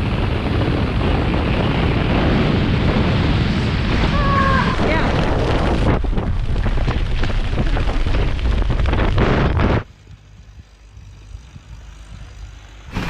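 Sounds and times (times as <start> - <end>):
low rumble: 0.0 - 13.0
wind rushing over microphone: 0.0 - 13.0.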